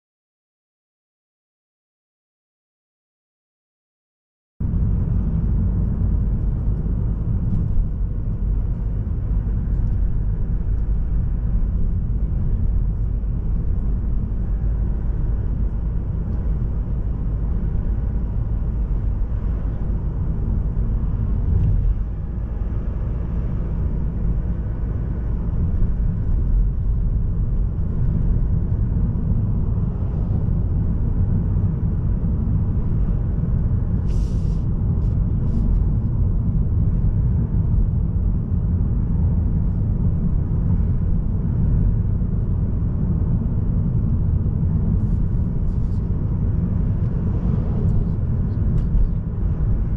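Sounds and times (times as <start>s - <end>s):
car road and engine rumble: 4.6s - 49.9s.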